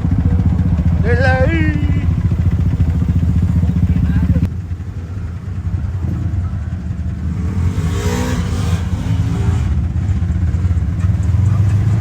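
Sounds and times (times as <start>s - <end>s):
off-road vehicle engine revving: 0.0s - 4.5s, 5.7s - 12.0s.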